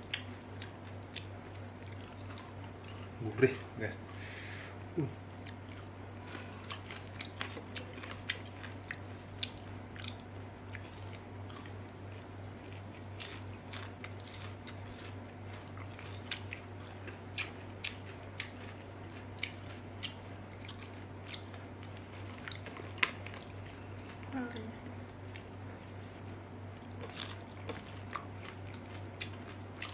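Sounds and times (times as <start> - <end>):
crunching and chewing of crispy chips: 0.0 - 4.0, 5.4 - 29.9
steady low hum: 0.0 - 29.9.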